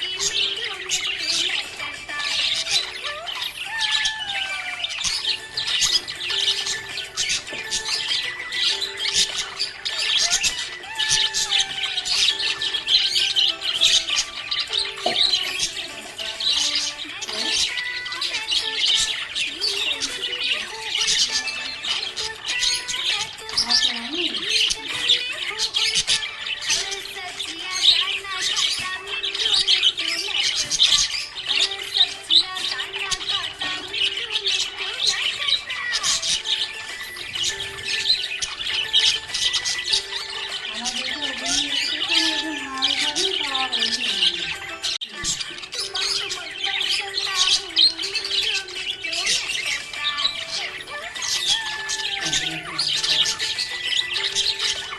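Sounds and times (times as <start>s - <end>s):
parrots chirping and squawking: 0.0s - 54.9s.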